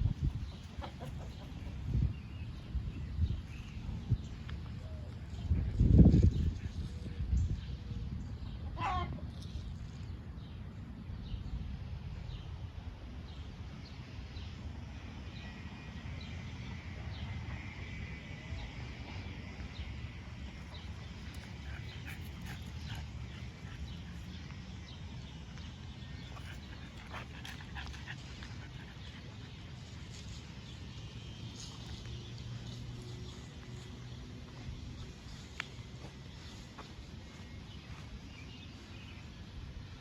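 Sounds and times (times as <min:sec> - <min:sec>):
low rumble of wind: 0:00.0 - 0:40.0.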